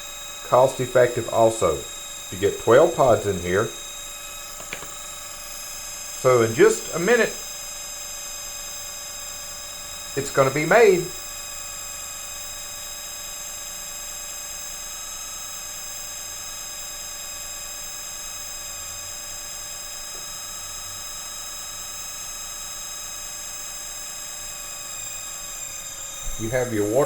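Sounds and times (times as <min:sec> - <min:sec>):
lather machine buzzing: 0:00.0 - 0:27.0.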